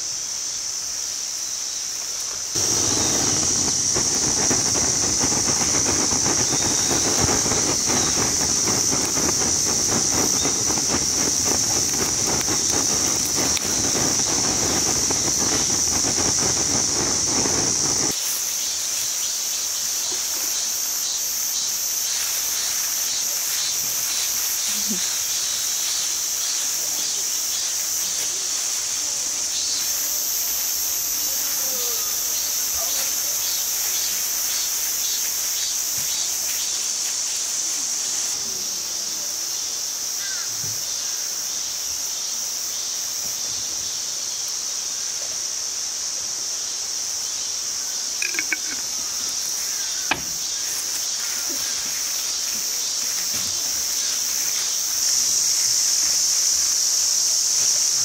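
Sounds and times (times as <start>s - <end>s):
insects singing: 0.0s - 38.8s, 44.2s - 58.0s.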